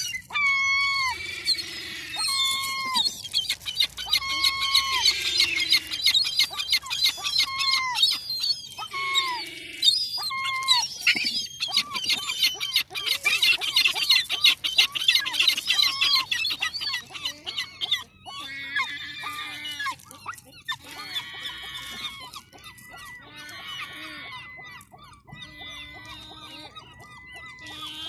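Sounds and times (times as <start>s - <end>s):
gulls calling: 0.0s - 28.0s.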